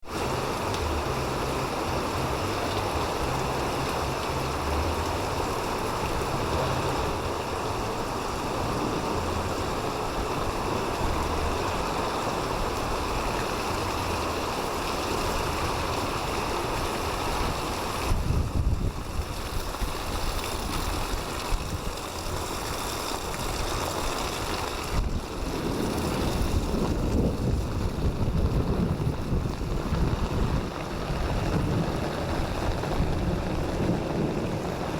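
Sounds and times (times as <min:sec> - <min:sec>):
low rumbles: 0:00.0 - 0:19.2, 0:24.4 - 0:34.9
heavy rain hissing: 0:00.0 - 0:34.9.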